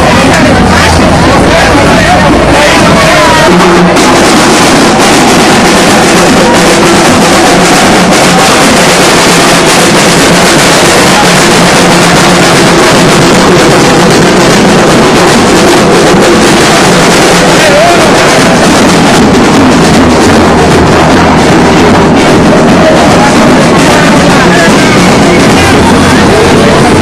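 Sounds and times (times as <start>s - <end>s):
crowd noise: 0.0s - 27.0s
marching band drums and trombone: 0.0s - 27.0s.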